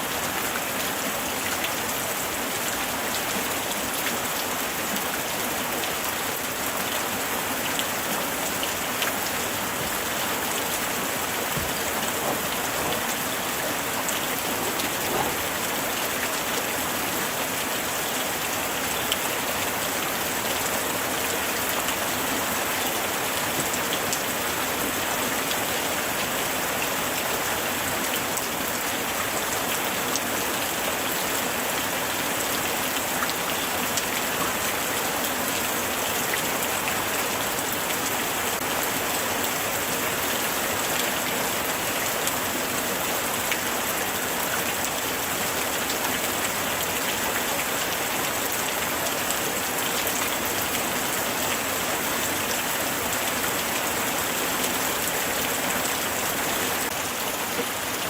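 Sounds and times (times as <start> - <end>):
raindrops ticking on surfaces: 0.1 - 58.0.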